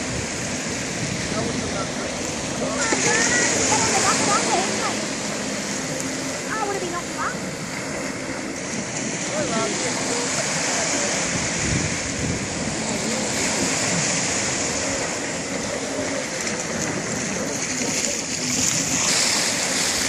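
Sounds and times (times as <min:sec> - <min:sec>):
distant jet ski engine drone: 0:00.0 - 0:20.0
small waves washing on shore: 0:00.0 - 0:20.0.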